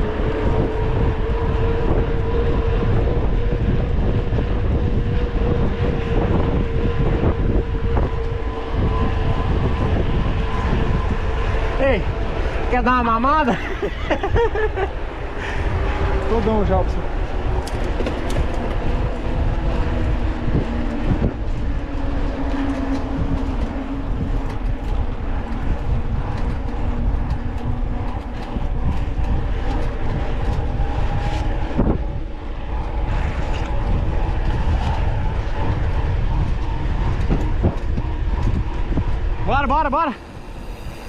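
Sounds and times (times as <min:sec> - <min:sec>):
wind rushing over microphone: 0:00.0 - 0:41.0
bike rattling over rough trail: 0:03.4 - 0:40.7.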